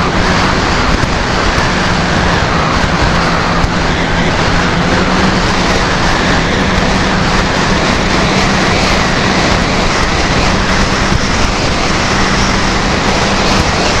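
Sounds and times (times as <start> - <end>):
loud rushing noise: 0.0 - 14.0
snowmobile engine hum: 0.0 - 14.0.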